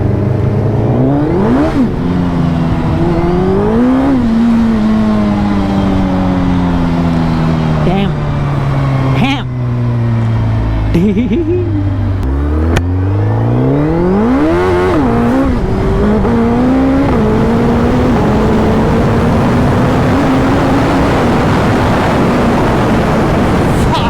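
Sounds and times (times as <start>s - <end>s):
rush of wind: 0.0s - 10.9s, 11.8s - 24.0s
motorcycle engine accelerating: 0.0s - 24.0s.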